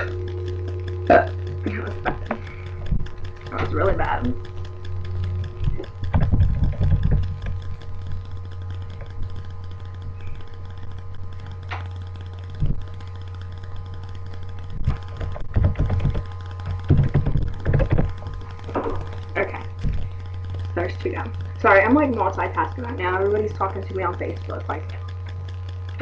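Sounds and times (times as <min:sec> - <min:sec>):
low electrical hum: 0:00.0 - 0:26.0
typing on a keyboard: 0:00.2 - 0:21.2.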